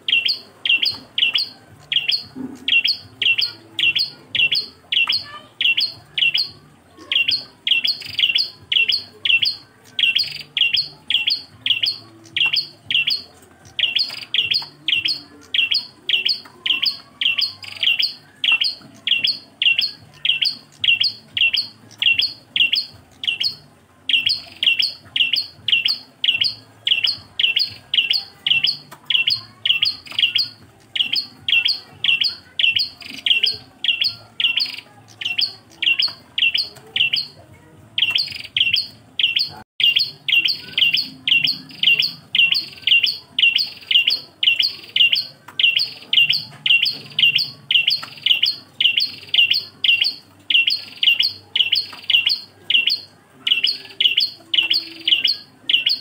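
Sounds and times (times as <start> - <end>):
songbird high chirps: 0.0 - 56.0.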